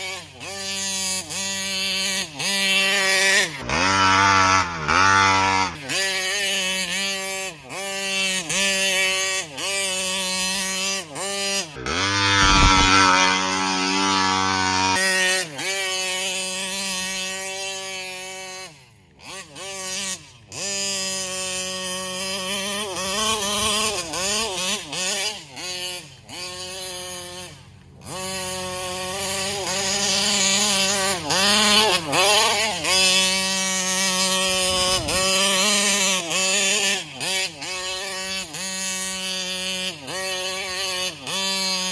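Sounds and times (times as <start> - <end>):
rc car engine revving: 0.0 - 41.9.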